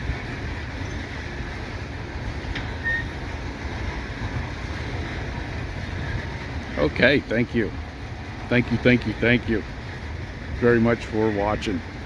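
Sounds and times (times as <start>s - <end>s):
train rumbling by: 0.0s - 12.0s.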